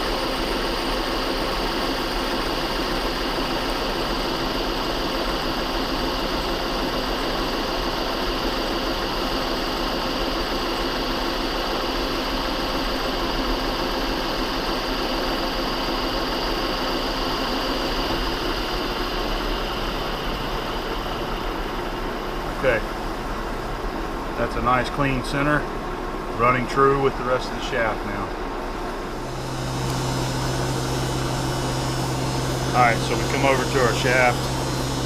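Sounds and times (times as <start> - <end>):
metal lathe cutting: 0.0 - 35.0.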